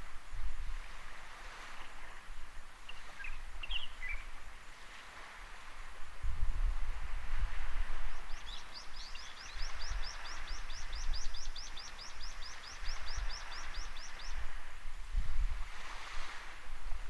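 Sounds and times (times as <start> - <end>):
small waves washing on sand: 0.0 - 17.0
wind buffeting microphone: 0.0 - 17.0.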